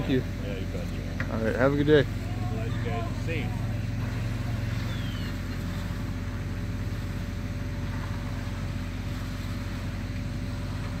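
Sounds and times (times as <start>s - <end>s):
fire engine pump drone: 0.0s - 11.0s
hose water spraying: 0.0s - 11.0s.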